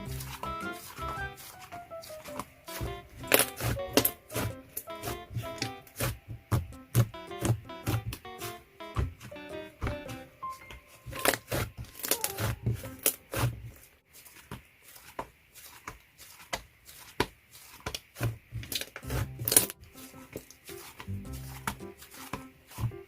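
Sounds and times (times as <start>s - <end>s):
slime squishing with sticky pops: 0.0s - 23.0s.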